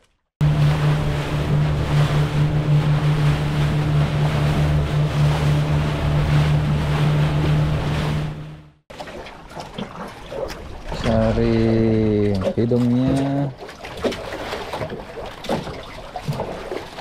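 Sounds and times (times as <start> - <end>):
rushing water: 0.0 - 17.0
wind: 0.0 - 17.0
boat engine humming: 0.4 - 17.0.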